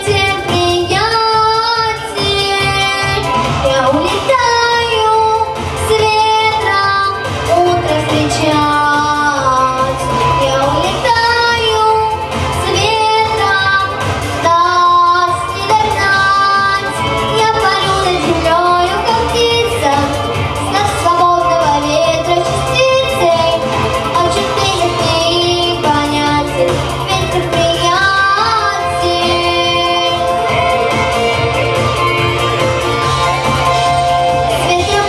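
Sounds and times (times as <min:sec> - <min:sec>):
girl singing: 0:00.0 - 0:30.6, 0:34.4 - 0:35.0
instrumental accompaniment: 0:00.0 - 0:35.0.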